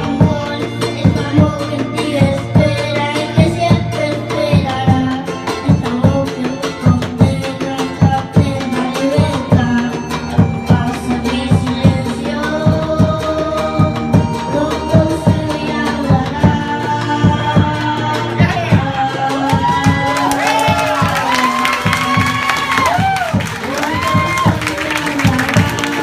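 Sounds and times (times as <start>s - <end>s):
steady drum beat: 0.0s - 26.0s
sustained melody line: 0.0s - 26.0s.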